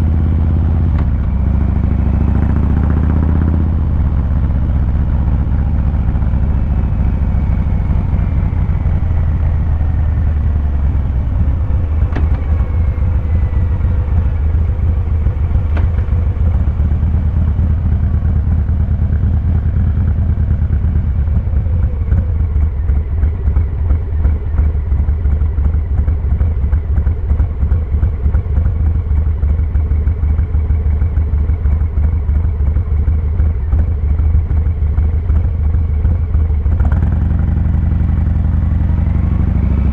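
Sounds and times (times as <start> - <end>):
motorcycle exhaust rumble: 0.0 - 39.9.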